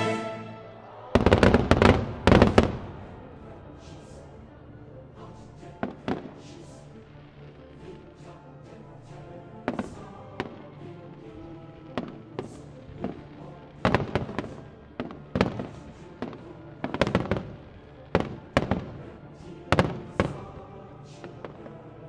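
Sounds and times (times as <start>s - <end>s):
music playing: 0.0s - 22.0s.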